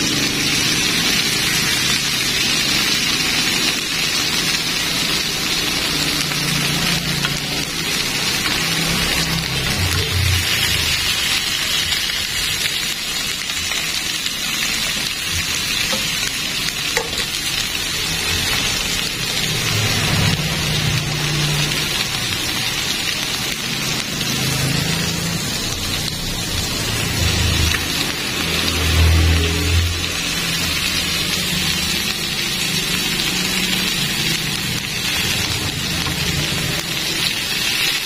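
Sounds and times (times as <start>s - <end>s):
meat sizzling in a grill pan: 0.0s - 38.0s.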